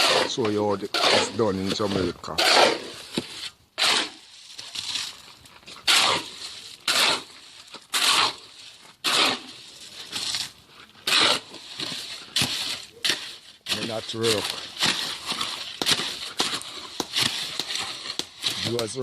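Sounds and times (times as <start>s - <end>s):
shovel scraping wet concrete mix: 0.0s - 19.0s.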